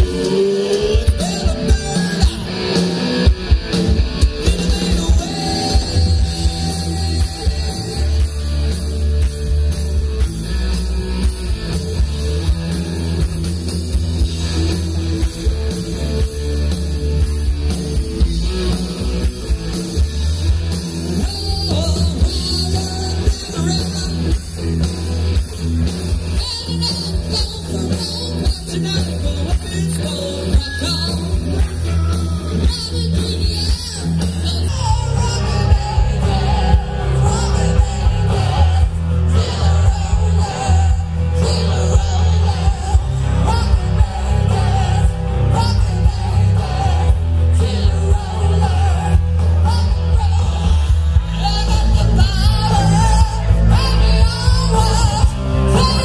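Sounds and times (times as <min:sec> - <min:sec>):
drum kit: 0:00.0 - 0:56.0
electric guitars: 0:00.0 - 0:56.0
heavy bass line: 0:00.0 - 0:56.0
lead singer singing: 0:00.0 - 0:56.0.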